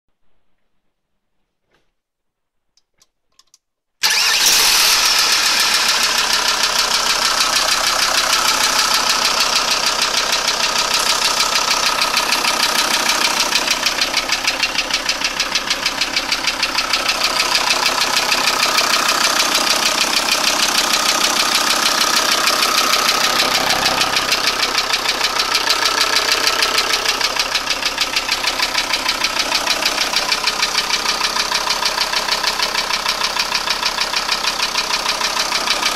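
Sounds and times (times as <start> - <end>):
diesel engine idling with rattle: 4.0 - 35.9
diesel engine starting: 4.0 - 35.9.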